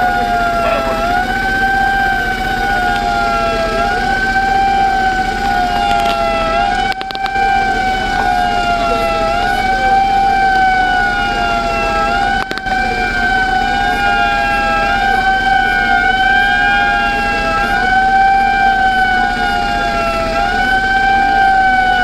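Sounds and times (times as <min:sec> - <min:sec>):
steady low hum: 0:00.0 - 0:22.0
wailing siren: 0:00.0 - 0:22.0.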